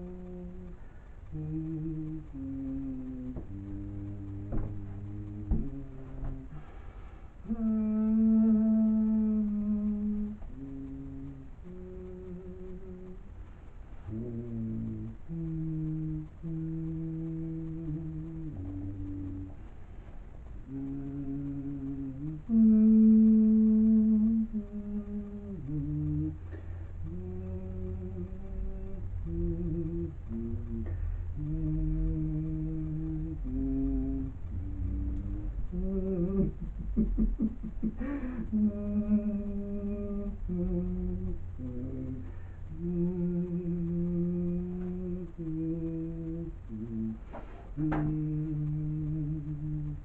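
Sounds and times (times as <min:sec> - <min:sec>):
person humming a slow melody: 0:00.0 - 0:50.0.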